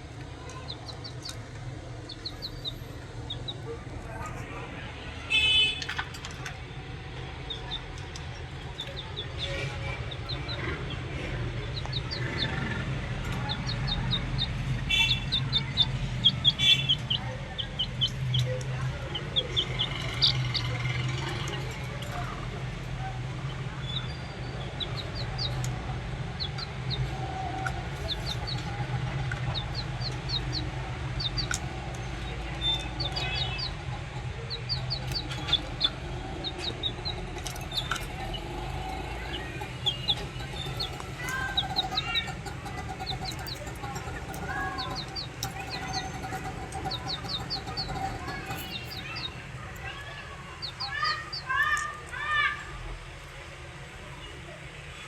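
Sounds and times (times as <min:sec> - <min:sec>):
budgerigars chirping and chattering: 0:00.2 - 0:22.3, 0:23.4 - 0:52.5.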